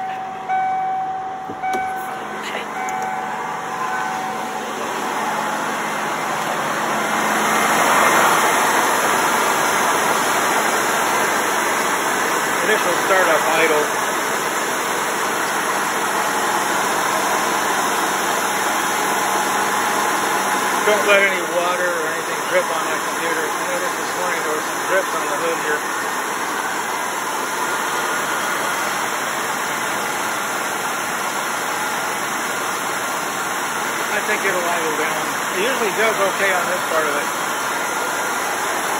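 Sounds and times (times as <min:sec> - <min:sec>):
truck engine high idle: 0:00.0 - 0:38.9.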